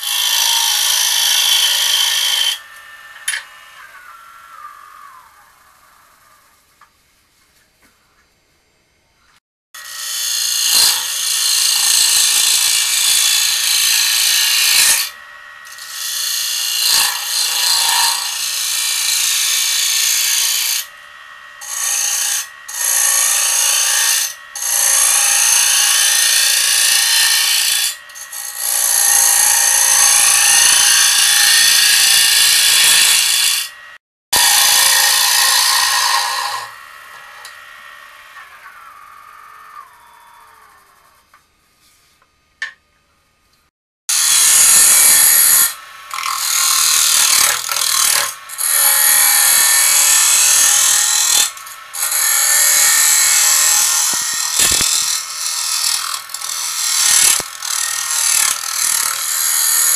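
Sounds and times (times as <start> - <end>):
gouge cutting wood on lathe: 0.0 - 6.4, 9.8 - 39.9, 44.1 - 59.9
lathe running: 0.0 - 6.6, 10.1 - 40.0, 44.2 - 59.9.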